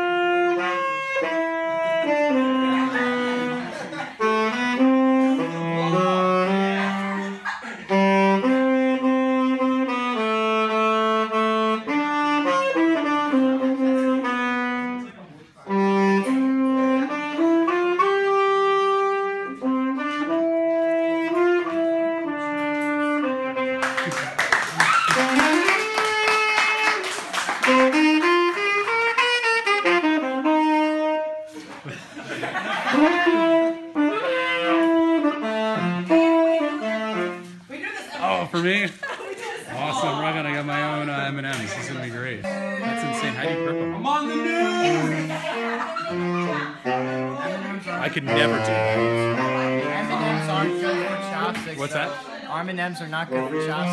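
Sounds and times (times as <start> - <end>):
solo saxophone melody: 0.0 - 24.5, 25.1 - 31.7, 32.6 - 38.8, 39.7 - 52.4, 53.1 - 53.9.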